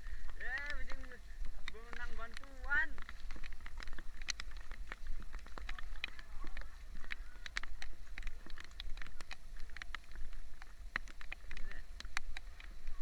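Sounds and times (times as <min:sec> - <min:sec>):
heavy raindrops tapping: 0:00.0 - 0:13.0.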